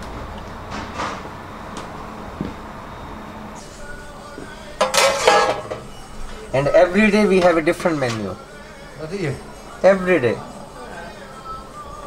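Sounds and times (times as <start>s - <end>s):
low kitchen rumble: 0.0s - 9.8s.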